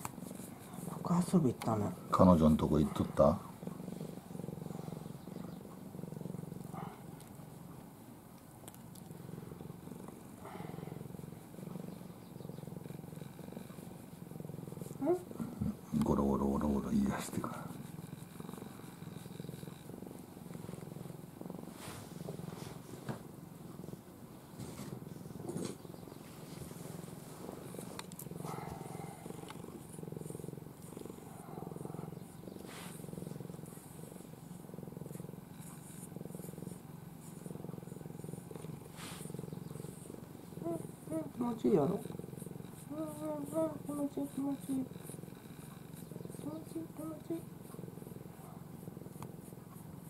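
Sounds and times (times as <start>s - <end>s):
cat purring: 0.0s - 50.0s.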